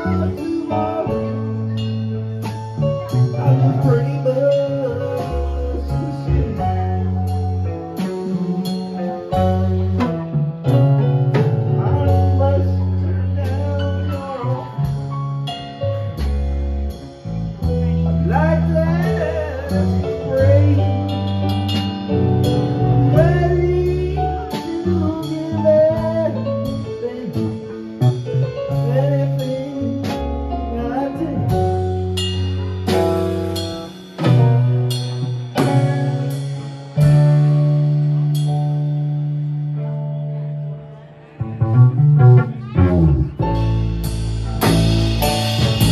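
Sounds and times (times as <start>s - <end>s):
drums beating on cymbal: 0.0s - 39.8s, 41.9s - 45.9s
electric bass long notes: 0.0s - 45.9s
electric guitar: 0.0s - 45.9s
keyboard: 0.0s - 45.9s.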